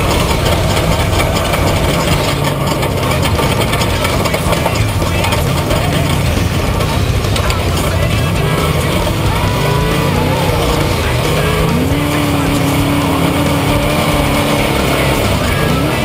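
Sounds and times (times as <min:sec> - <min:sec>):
broad noise from moving truck: 0:00.0 - 0:16.0
truck engine running: 0:00.0 - 0:16.0.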